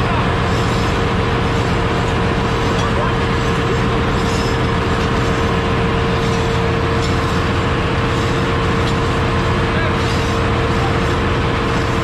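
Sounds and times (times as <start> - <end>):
engine-room machinery droning: 0.0 - 12.0.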